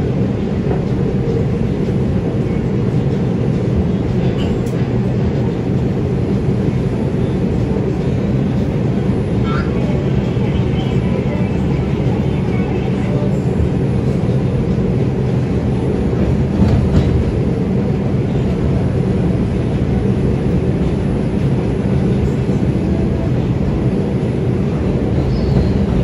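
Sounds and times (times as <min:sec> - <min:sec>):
rumble of train wheels on rail: 0:00.0 - 0:26.0.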